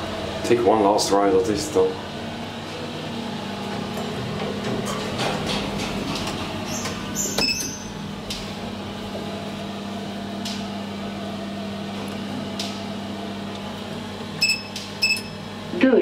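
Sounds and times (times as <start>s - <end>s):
elevator hum: 0.0s - 16.0s.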